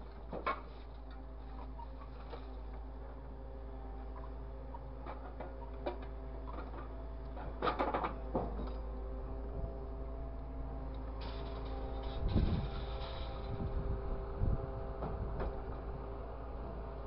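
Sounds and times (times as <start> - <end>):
truck engine and hydraulics hum: 0.0 - 17.0.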